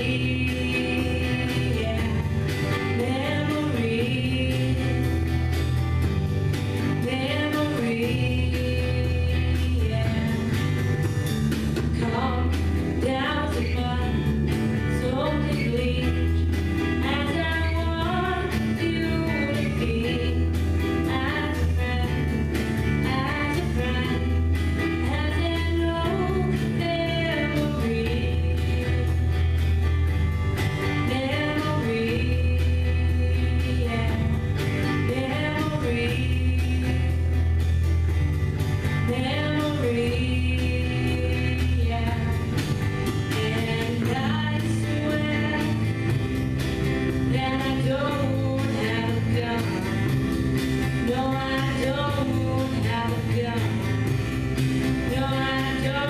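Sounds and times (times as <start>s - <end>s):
woman singing: 0.0s - 11.1s, 11.7s - 30.2s, 30.8s - 38.1s, 38.8s - 56.0s
live rock band playing: 0.0s - 56.0s.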